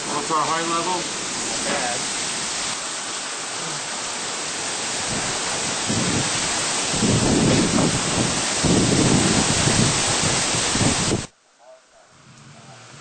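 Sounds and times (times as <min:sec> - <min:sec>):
heavy rain: 0:00.0 - 0:11.4
hurricane wind: 0:00.0 - 0:11.4.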